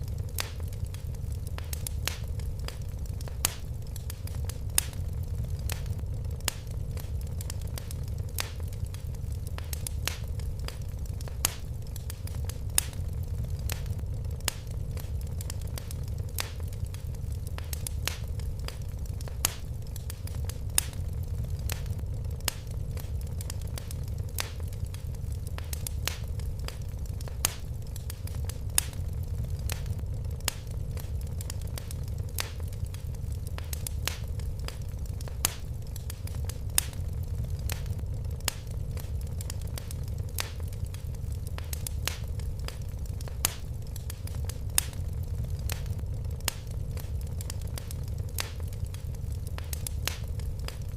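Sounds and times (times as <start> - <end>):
fire crackling: 0.0 - 50.9.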